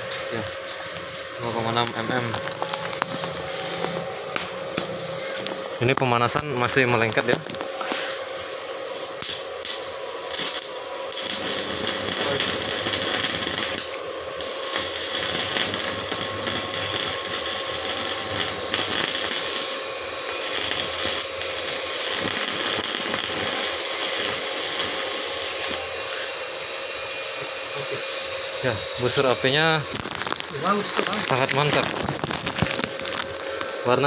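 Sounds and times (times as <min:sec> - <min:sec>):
welding arc crackling hiss: 0:00.0 - 0:08.5, 0:09.1 - 0:34.0.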